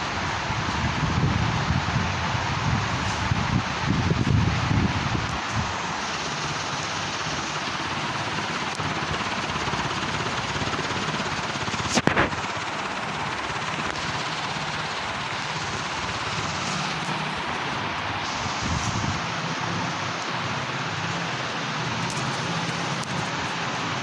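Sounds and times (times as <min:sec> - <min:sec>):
ceiling fan running: 0:00.0 - 0:24.0.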